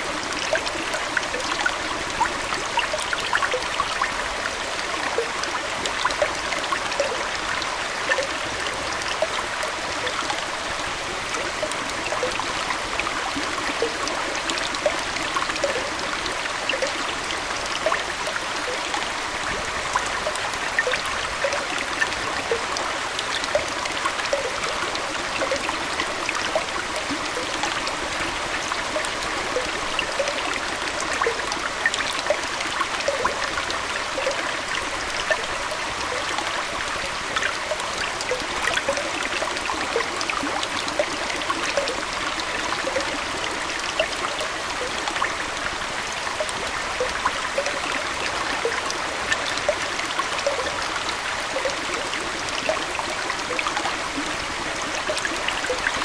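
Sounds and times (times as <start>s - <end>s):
aquarium water trickling: 0.0s - 56.0s
water drips and plinks: 0.0s - 56.0s.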